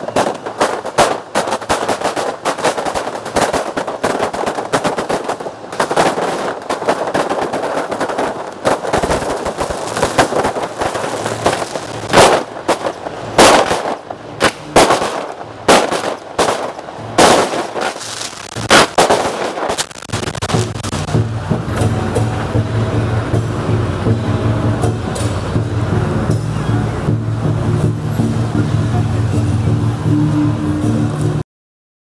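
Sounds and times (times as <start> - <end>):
fireworks bangs: 0.0 - 26.3
fireworks crackling: 0.0 - 29.3.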